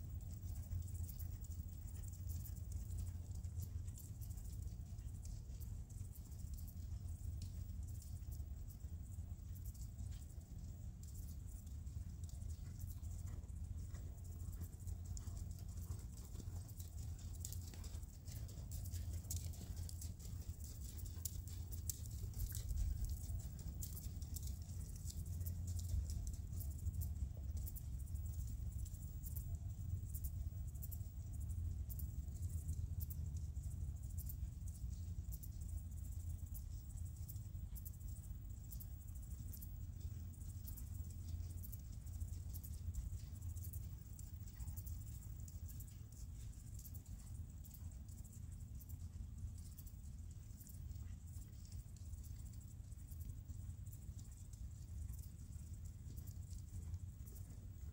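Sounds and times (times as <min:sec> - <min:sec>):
horse hooves trotting on sand: 0:00.0 - 0:57.9.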